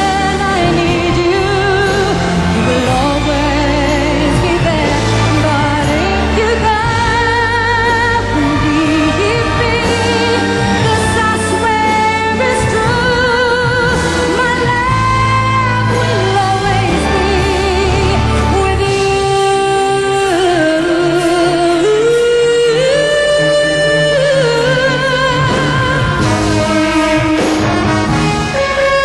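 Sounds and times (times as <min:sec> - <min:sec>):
woman singing a pop ballad: 0:00.0 - 0:27.9
band accompaniment: 0:00.0 - 0:29.0.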